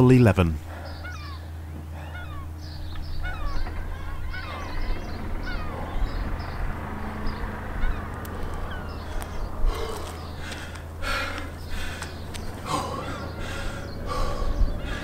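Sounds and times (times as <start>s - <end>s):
birds calling: 0.0s - 15.0s
low hum: 0.0s - 15.0s.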